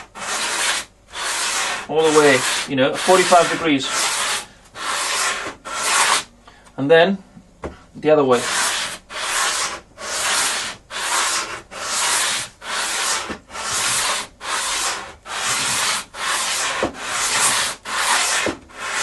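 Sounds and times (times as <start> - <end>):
sanding block strokes on wood: 0.0 - 6.3, 8.3 - 19.0.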